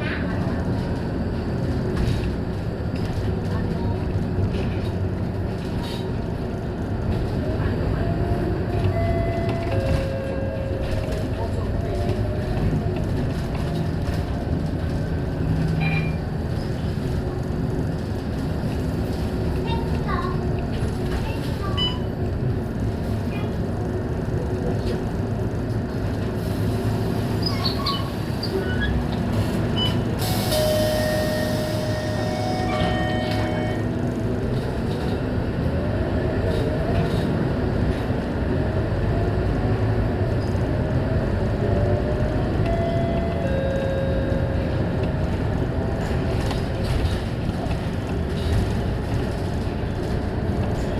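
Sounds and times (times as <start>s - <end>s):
bus engine and road noise: 0.0s - 50.9s.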